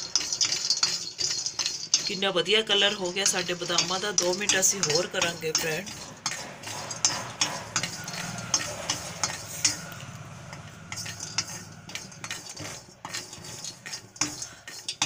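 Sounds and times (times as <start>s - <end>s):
metal spatula scraping a pan: 0.0s - 15.0s
nuts rattling against a pan: 0.0s - 15.0s.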